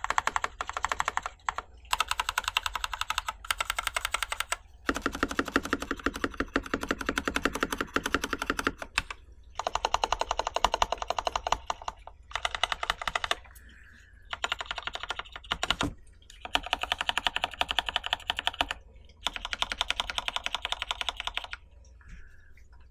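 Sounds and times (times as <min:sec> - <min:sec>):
mechanical keyboard typing: 0:00.0 - 0:13.6, 0:14.3 - 0:21.6.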